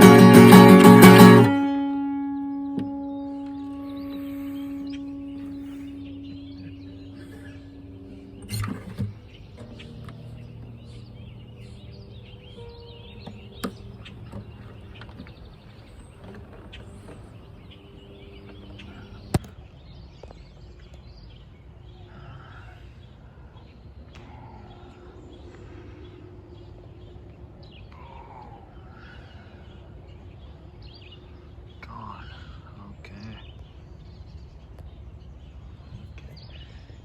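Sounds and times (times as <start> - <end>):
low background hum: 0.0 - 19.8, 20.5 - 37.0
birds chirping: 0.0 - 37.0.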